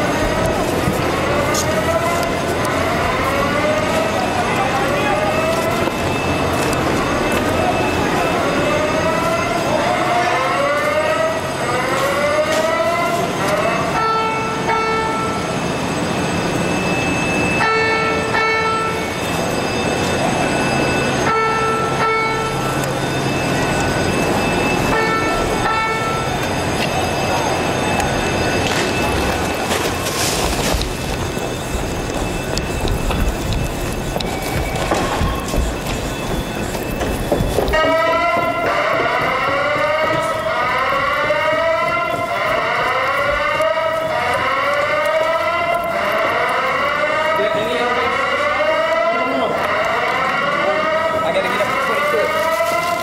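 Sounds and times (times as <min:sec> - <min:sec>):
electronic alarm tones: 0:00.0 - 0:53.0.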